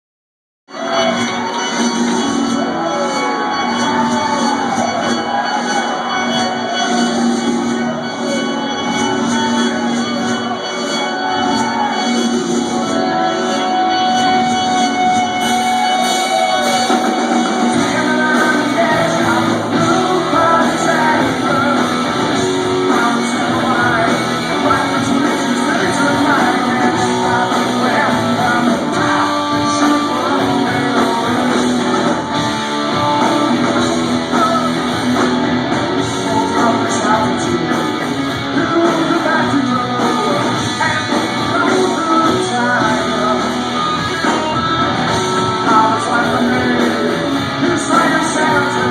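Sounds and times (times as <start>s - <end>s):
electric guitar: 0.7s - 48.9s
live rock band playing: 0.7s - 48.9s
person singing: 0.7s - 48.9s.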